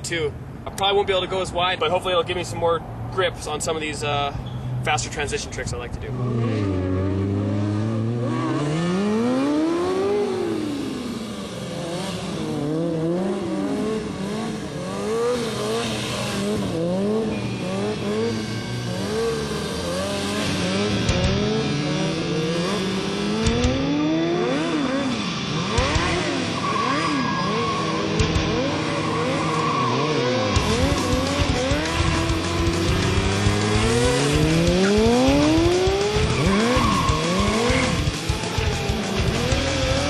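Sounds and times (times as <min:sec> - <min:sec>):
motorcycle engine revving: 0:06.0 - 0:40.0.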